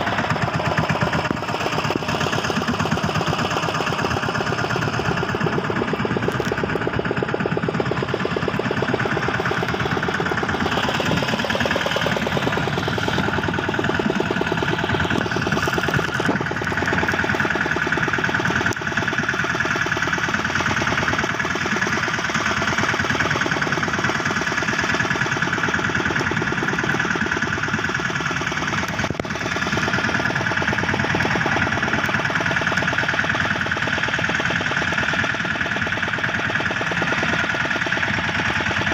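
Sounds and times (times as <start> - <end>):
boat engine chugging: 0.0 - 38.9.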